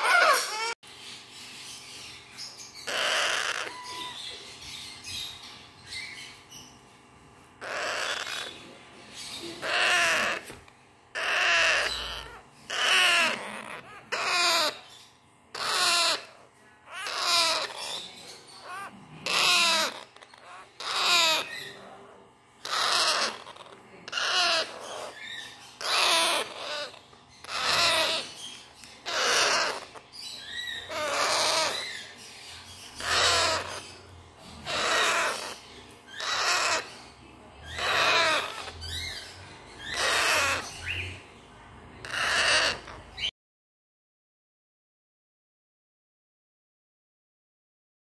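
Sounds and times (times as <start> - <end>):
parrot chicks raspy begging calls: 0.0 - 43.3.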